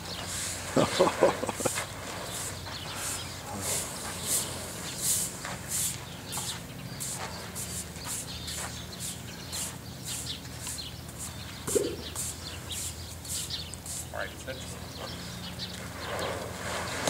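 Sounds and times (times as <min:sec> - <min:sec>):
stiff brush scrubbing elephant hide: 0:00.1 - 0:15.2.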